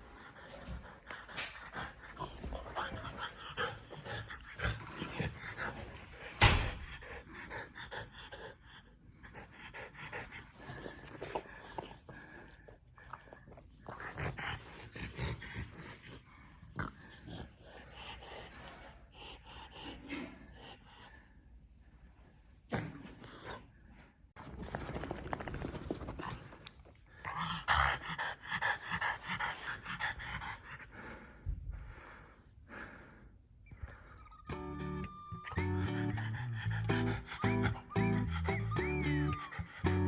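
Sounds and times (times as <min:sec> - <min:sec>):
dog panting: 0:00.0 - 0:21.2, 0:24.9 - 0:33.2, 0:33.8 - 0:40.0.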